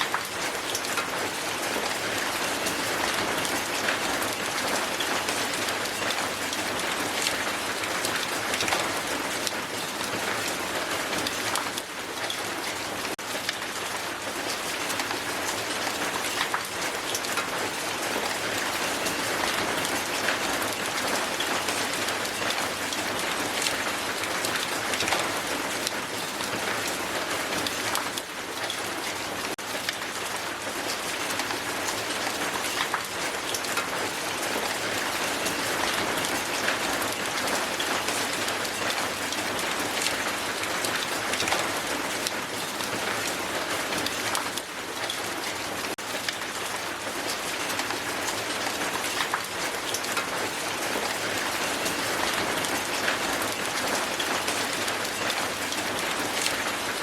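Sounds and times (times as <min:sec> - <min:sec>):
hail on a hard surface: 0:00.0 - 0:57.0.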